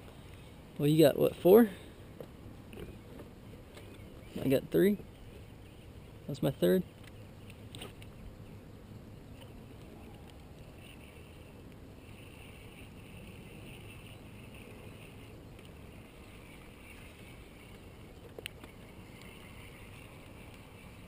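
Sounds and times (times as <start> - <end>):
faint background on open water: 0.0 - 21.0.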